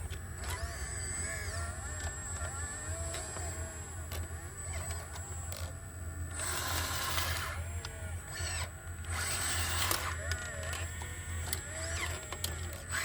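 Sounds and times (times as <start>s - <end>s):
hydraulics whining: 0.0s - 13.0s.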